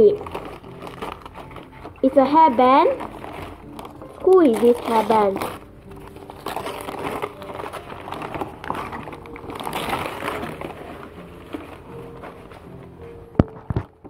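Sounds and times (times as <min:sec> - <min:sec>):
packaging crackling and crinkling: 0:00.0 - 0:14.0.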